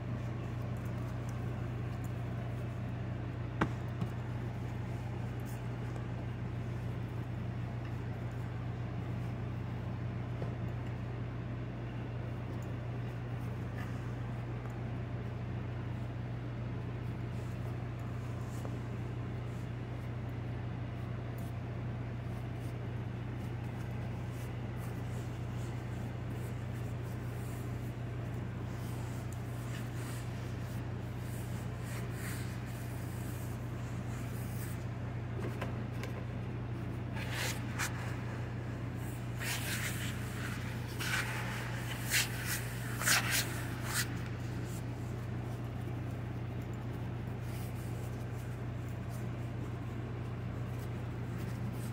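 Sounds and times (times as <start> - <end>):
dough worked by hand on marble: 0.0 - 51.9
steady low hum: 0.0 - 51.9.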